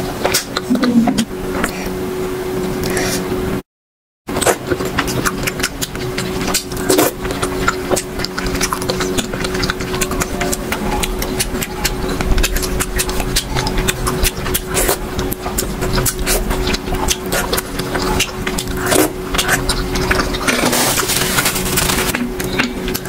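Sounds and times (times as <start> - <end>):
electrical hum: 0.0 - 3.7, 4.3 - 23.0
wet chewing and mouth smacks: 4.4 - 23.0.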